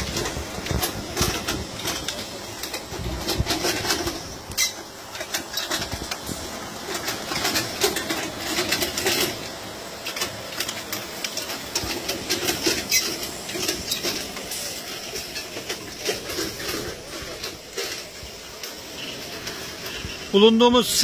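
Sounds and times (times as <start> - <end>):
machine clattering clicks and knocks: 0.0 - 20.2.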